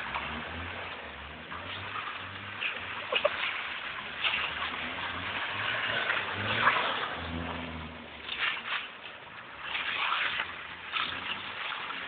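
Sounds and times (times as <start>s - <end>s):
car engine revving: 0.0s - 12.0s
tyres hissing on wet road: 0.0s - 12.0s.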